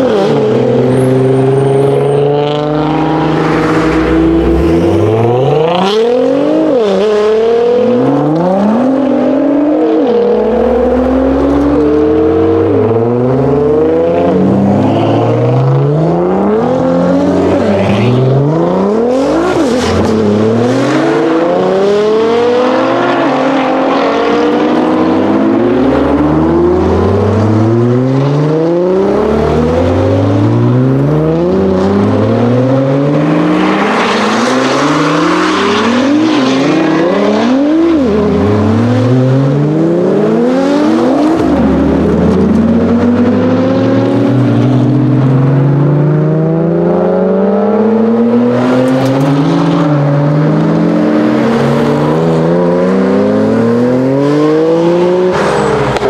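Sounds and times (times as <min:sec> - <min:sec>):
cars accelerating hard: 0:00.0 - 0:56.0.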